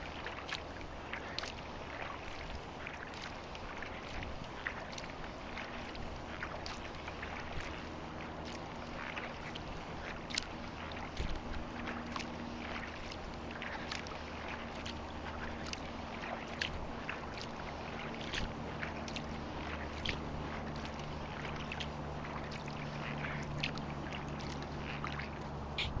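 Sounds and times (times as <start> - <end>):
steady wash of water: 0.0 - 26.0
waves splashing against kayak hull: 0.0 - 26.0.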